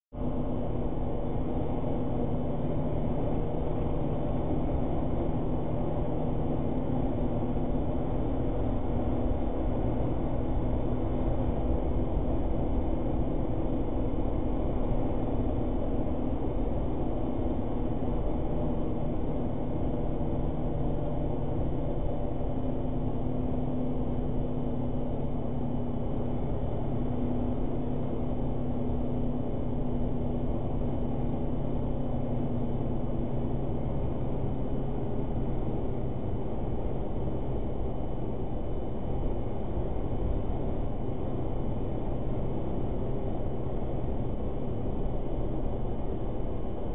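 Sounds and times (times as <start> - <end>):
vehicle engine and road drone: 0.1 - 46.9.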